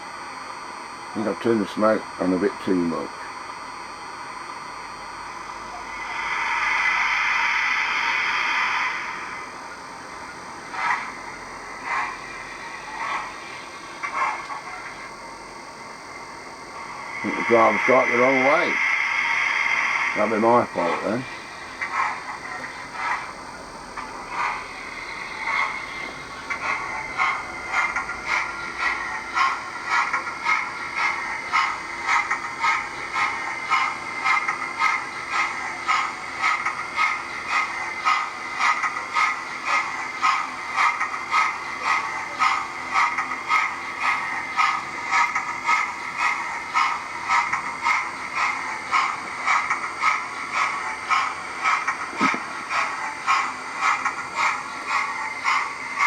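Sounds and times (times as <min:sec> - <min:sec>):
constant whine: 0:00.0 - 0:56.0
model steam locomotive chuffing: 0:01.1 - 0:03.6, 0:04.2 - 0:56.0.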